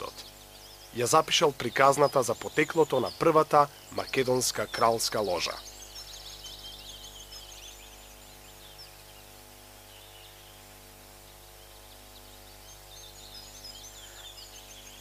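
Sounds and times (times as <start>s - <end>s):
birds chirping: 0.0s - 15.0s
low electrical hum: 0.0s - 15.0s.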